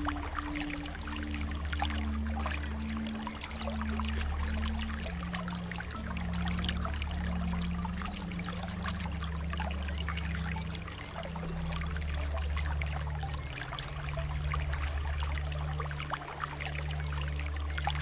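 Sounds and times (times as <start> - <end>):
low hum: 0.0 - 18.0
water trickling and bubbling: 0.0 - 18.0.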